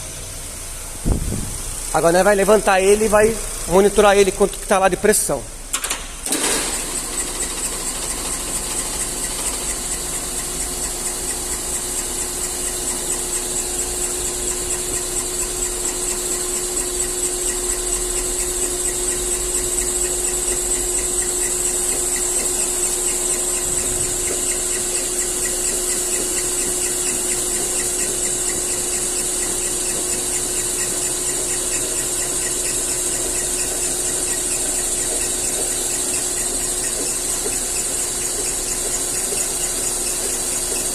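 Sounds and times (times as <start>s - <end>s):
machine whining with squealing hiss: 6.7s - 40.9s.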